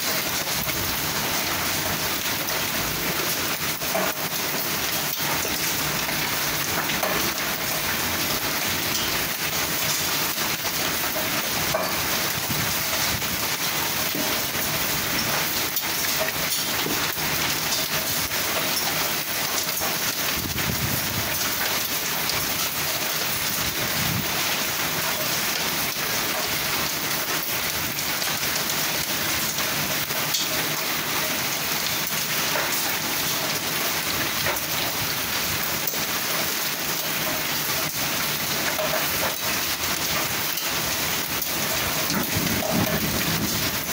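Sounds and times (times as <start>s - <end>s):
hailstones ticking: 0.0s - 43.9s
heavy rain hissing: 0.0s - 43.9s.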